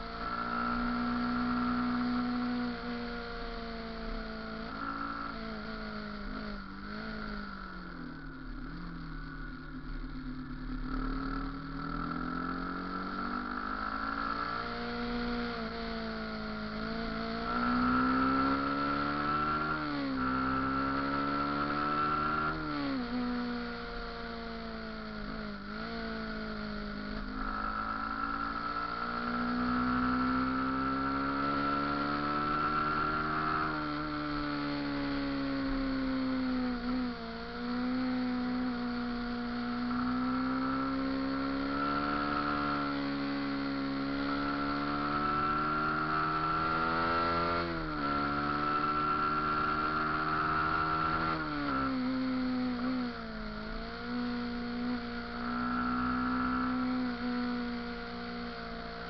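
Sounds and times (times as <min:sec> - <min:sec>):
motorcycle engine revving: 0:00.0 - 0:59.0
steady high whine: 0:00.0 - 0:59.0.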